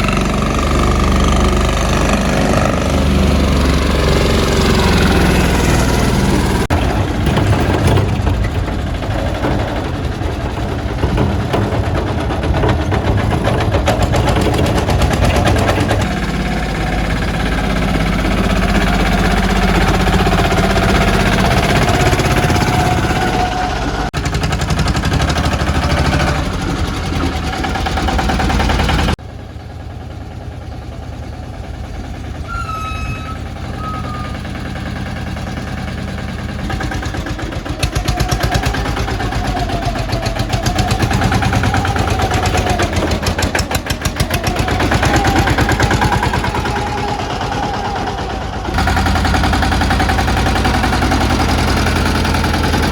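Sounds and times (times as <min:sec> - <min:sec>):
small tractor engine running: 0:00.0 - 0:52.9.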